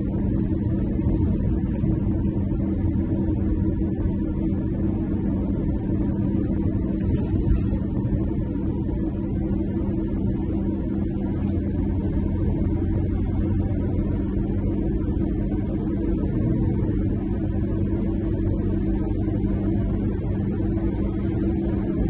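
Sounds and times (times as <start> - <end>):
engine and tyre drone: 0.0 - 22.0.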